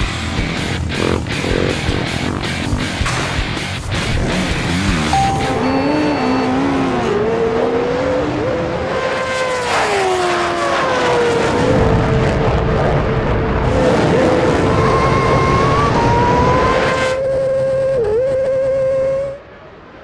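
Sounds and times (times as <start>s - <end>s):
drag racing engines revving: 0.1s - 5.1s, 5.8s - 19.0s.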